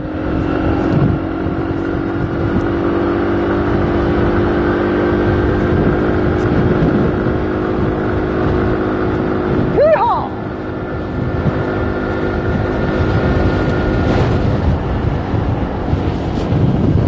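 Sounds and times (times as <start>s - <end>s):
road and wind noise: 0.0s - 17.0s
vehicle engine hum: 0.0s - 17.0s.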